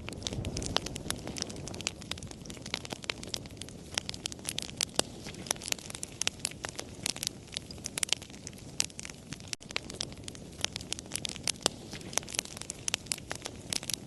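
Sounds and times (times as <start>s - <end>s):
campfire pops and snaps: 0.0s - 14.0s
low rush of flame: 0.0s - 14.0s.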